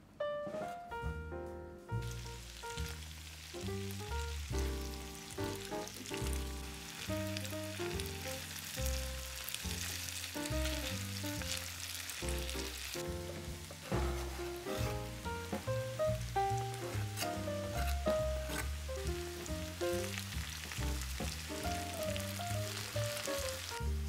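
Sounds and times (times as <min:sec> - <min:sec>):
background music: 0:00.3 - 0:24.0
food sizzling and crackling: 0:02.0 - 0:24.0.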